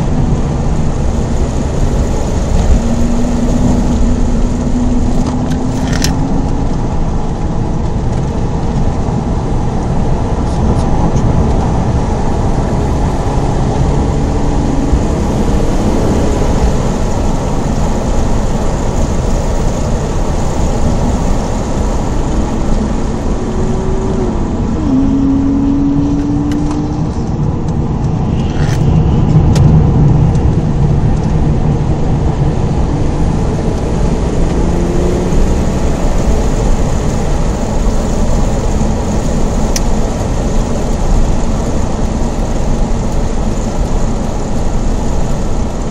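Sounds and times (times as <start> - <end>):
car engine under load: 0.0 - 45.9
wind noise: 0.0 - 45.9.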